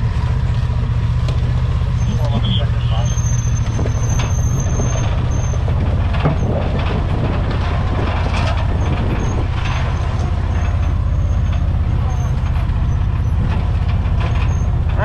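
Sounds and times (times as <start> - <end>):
utility vehicle engine running: 0.0 - 15.0
vehicle body rattling and knocking: 0.0 - 15.0.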